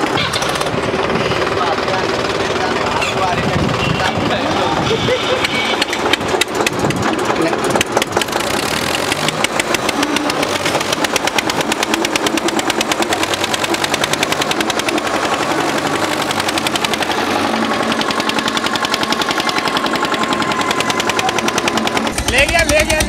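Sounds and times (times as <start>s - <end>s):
tractor diesel engines at full throttle: 0.0s - 23.0s.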